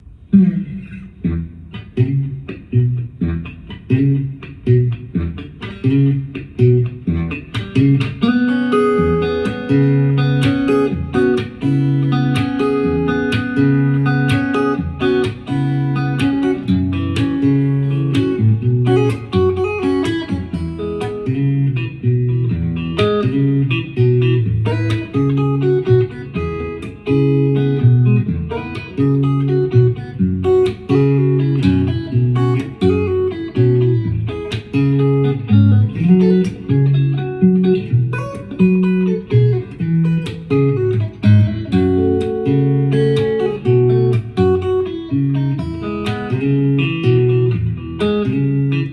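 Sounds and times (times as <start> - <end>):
guitar plucked notes and chords: 0.0 - 48.9.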